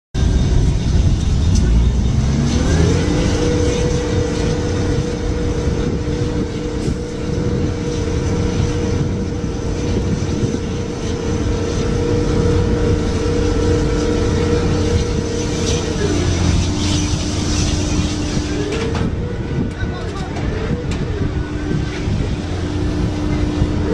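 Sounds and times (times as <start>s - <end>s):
low rumble of gas fire: 0.1s - 23.9s
crane engine droning: 0.2s - 23.9s.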